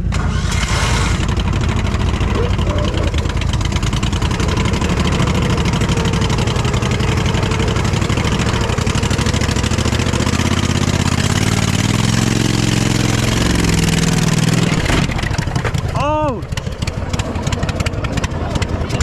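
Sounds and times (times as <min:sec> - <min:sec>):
lawnmower engine running hard: 0:00.0 - 0:19.0
steady pitched drone: 0:00.5 - 0:19.0.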